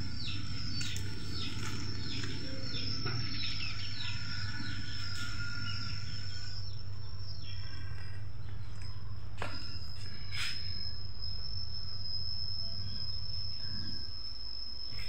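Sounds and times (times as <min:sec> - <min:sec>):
bird chirping: 0:00.0 - 0:14.2
high-pitched insect drone: 0:00.0 - 0:15.0
low steady hum: 0:00.0 - 0:15.0.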